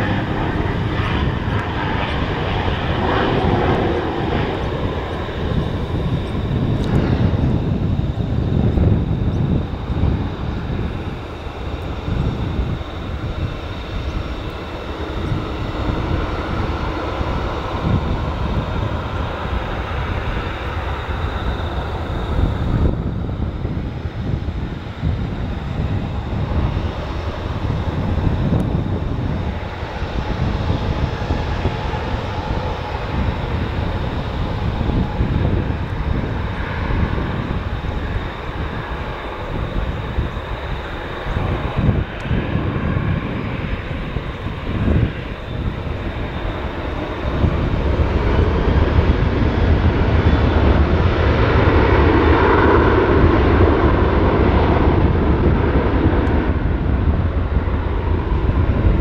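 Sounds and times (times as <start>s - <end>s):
jet engines spooling up: 0.0s - 59.0s.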